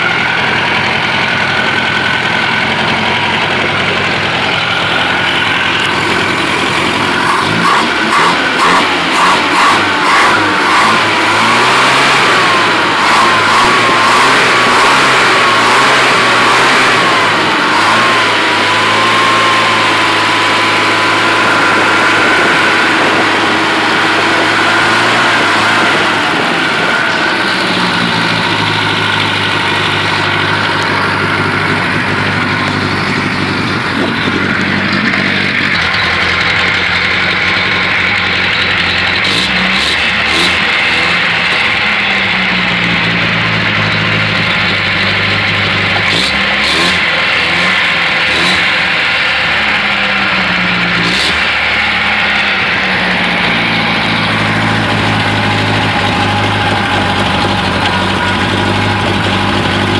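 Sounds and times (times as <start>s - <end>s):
car engine revving and idling: 0.0s - 59.9s.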